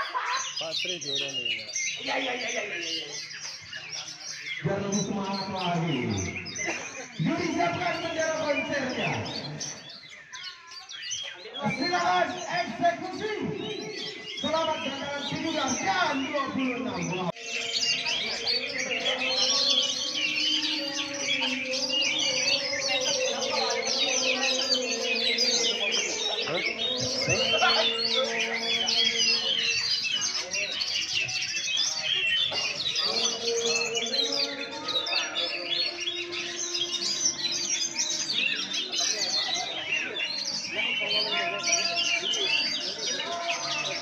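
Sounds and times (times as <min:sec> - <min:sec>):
birds chirping and whistling: 0:00.0 - 0:44.0.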